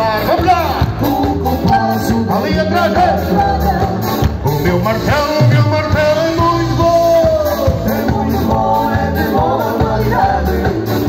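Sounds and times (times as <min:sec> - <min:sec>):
live upbeat band music: 0:00.0 - 0:11.0
person singing lead vocal: 0:00.0 - 0:11.0.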